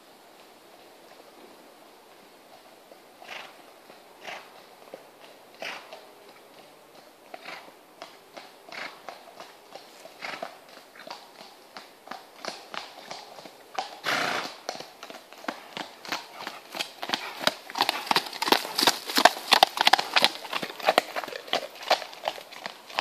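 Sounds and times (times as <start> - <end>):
horse hooves clip-clopping: 0.0 - 23.0.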